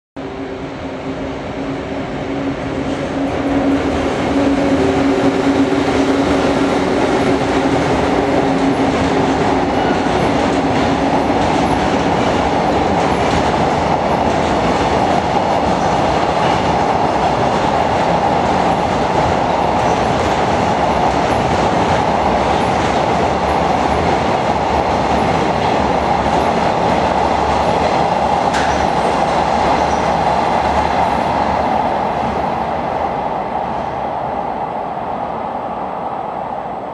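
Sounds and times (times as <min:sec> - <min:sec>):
freight train rumbling past: 0:00.2 - 0:36.9.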